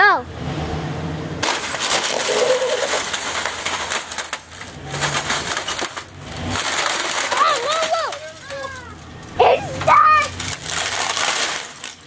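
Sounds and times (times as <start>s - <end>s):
plastic cracking under tyre: 1.4s - 9.1s, 9.8s - 12.0s.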